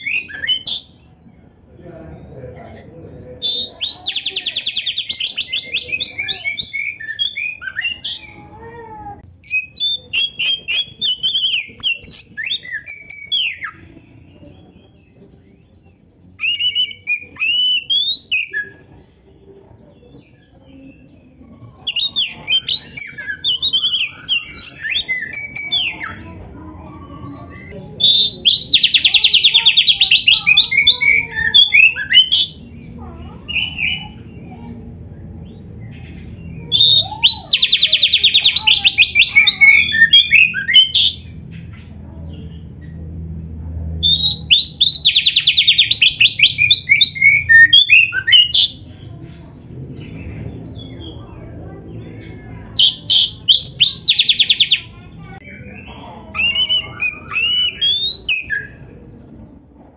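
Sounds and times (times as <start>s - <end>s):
songbird singing whistled phrases: 0.0s - 1.4s, 3.3s - 8.4s, 9.4s - 19.1s, 20.4s - 26.4s, 27.3s - 51.9s, 52.8s - 58.9s.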